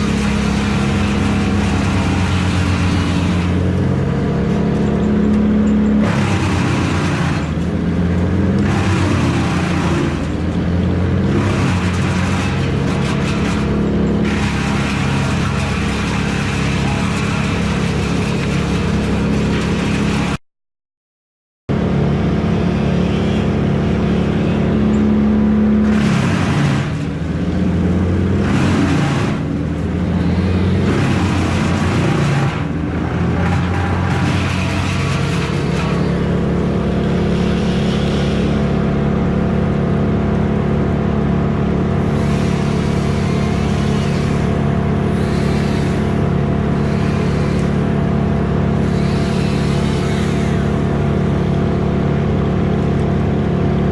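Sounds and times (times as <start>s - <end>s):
engine running and surging: 0.0s - 20.4s, 21.7s - 53.9s.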